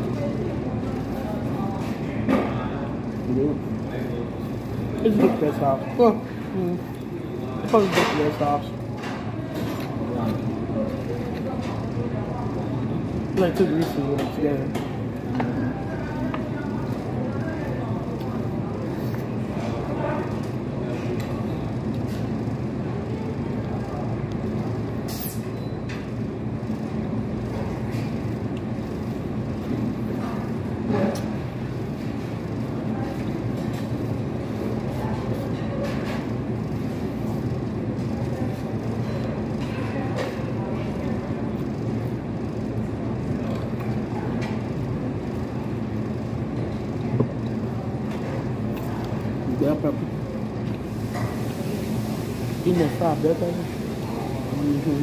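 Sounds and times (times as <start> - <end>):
restaurant dining room noise: 0.0 - 55.0.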